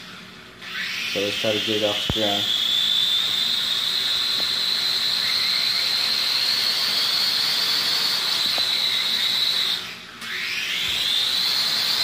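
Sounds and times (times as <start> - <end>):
toy drone motors whining: 0.6 - 12.0.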